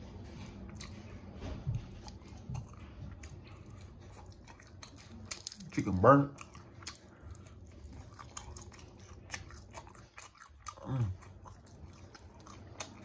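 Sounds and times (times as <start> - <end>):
biting and chewing food: 0.0 - 13.0.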